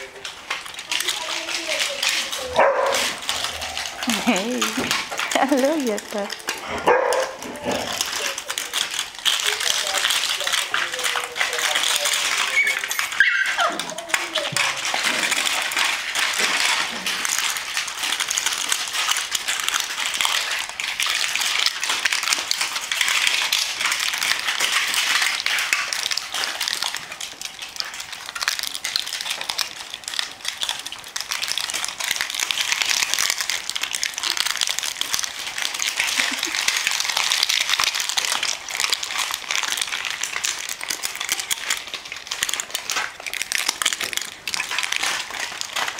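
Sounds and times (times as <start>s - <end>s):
paper and plastic crackling: 0.0s - 45.9s
puppies growling and yipping: 2.1s - 9.4s, 12.2s - 27.0s, 27.7s - 45.9s.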